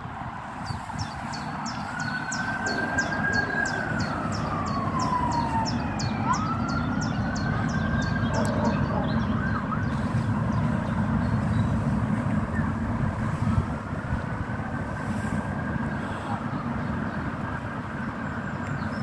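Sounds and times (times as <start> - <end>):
distant siren wailing: 0.0 - 19.0
wind rumble on microphone: 0.0 - 19.0.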